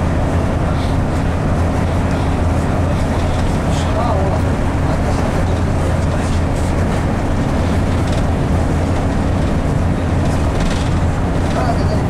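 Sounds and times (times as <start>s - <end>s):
bus engine droning: 0.0s - 12.0s
road rumble: 0.0s - 12.0s.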